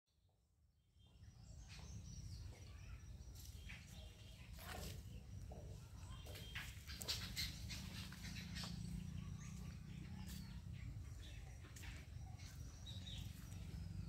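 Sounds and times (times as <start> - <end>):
birds chirping: 0.9 - 14.0.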